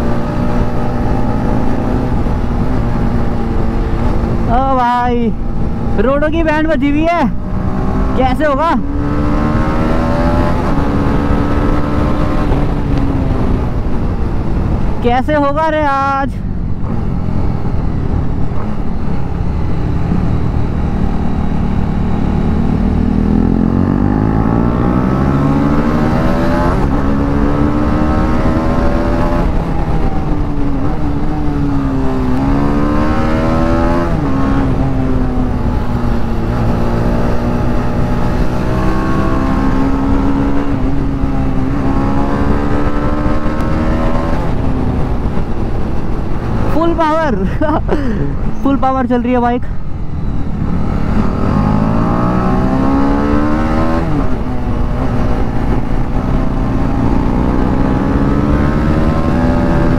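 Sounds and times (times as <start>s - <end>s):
motorcycle engine revving: 0.0s - 59.9s
wind rumble on microphone: 0.0s - 59.9s.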